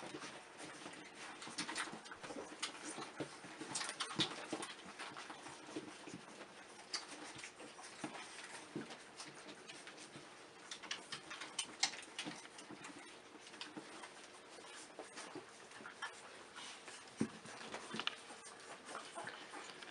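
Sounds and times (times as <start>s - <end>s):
puppies shuffling and rustling: 0.0s - 19.9s.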